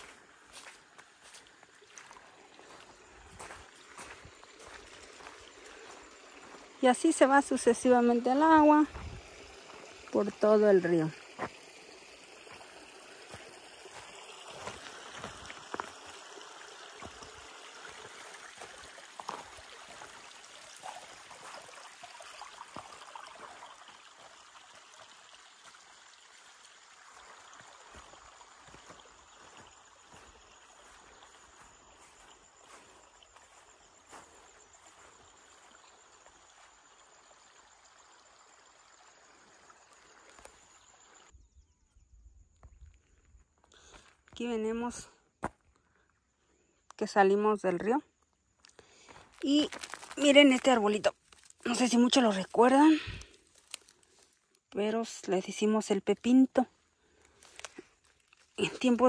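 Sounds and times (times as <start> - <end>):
river water flowing and trickling: 0.0 - 41.4, 47.8 - 59.0.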